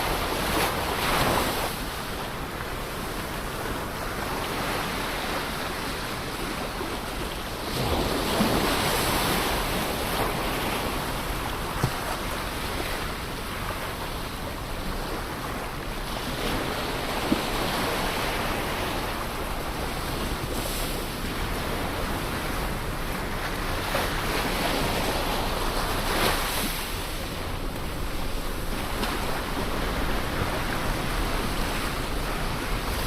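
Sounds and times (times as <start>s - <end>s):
ocean waves washing ashore: 0.0s - 33.0s.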